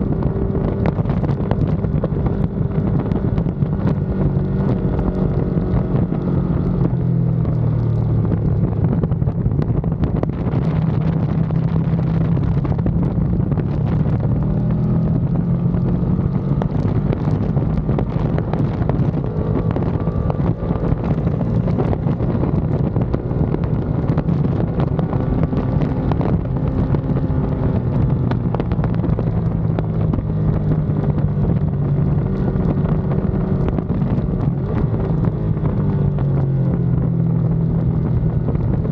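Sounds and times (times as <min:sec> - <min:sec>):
motorcycle engine revving: 0:00.0 - 0:38.9
wind noise on microphone: 0:00.0 - 0:38.9.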